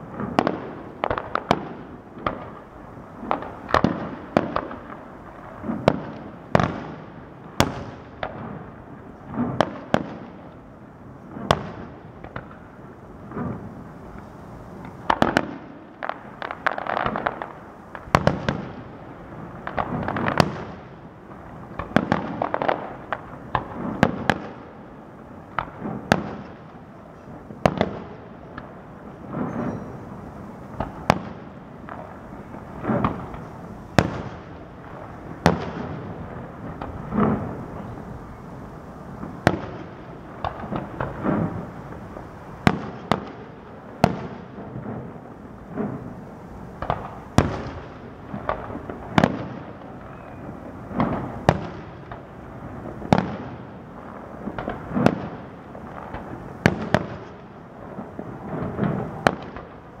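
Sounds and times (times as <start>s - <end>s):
firework booms: 0.0s - 10.5s, 11.3s - 60.0s.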